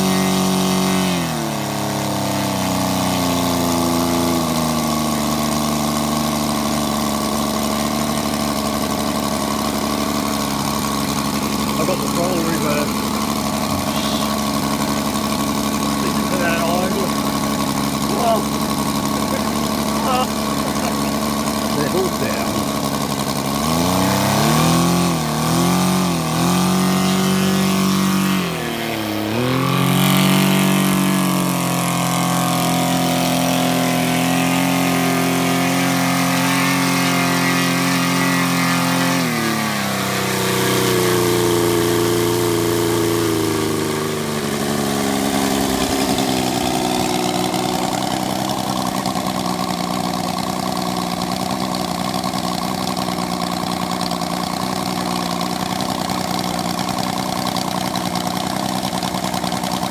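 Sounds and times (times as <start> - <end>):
model aircraft engine running: 0.0 - 59.9.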